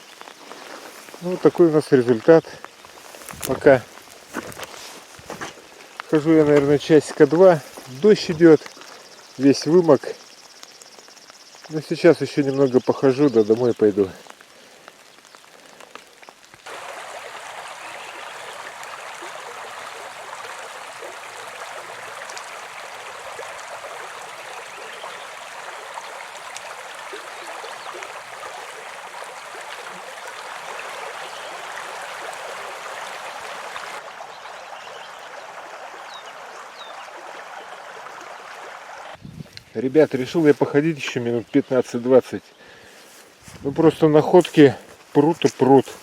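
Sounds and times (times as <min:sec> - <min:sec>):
rain falling: 0:00.0 - 0:42.3.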